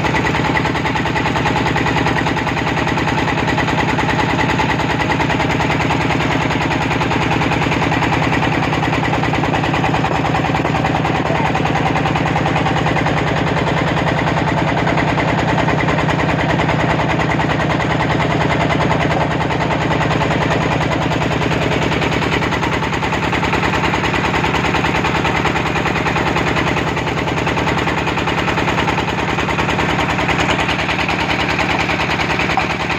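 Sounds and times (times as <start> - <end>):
boat engine chugging: 0.0 - 32.9.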